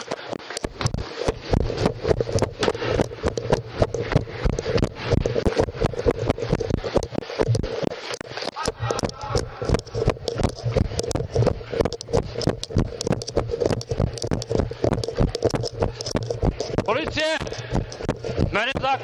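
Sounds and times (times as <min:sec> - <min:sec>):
running footsteps on hard floor: 0:00.0 - 0:19.0.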